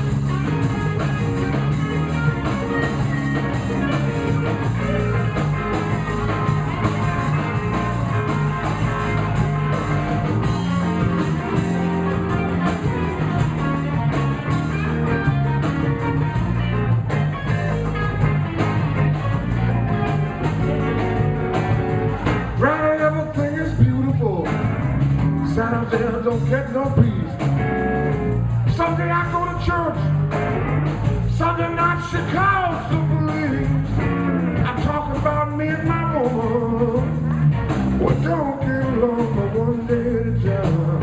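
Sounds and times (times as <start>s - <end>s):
bass guitar: 0.0s - 41.0s
drums keeping a steady beat: 0.0s - 41.0s
electric guitar: 0.0s - 41.0s.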